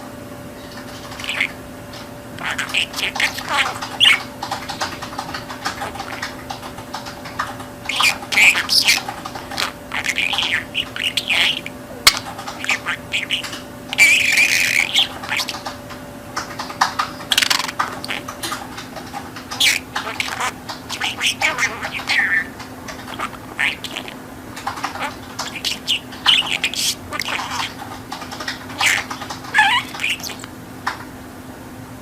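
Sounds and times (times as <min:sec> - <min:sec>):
faint steady hum: 0:00.0 - 0:32.0
budgerigar chattering: 0:01.0 - 0:01.6, 0:02.4 - 0:30.6.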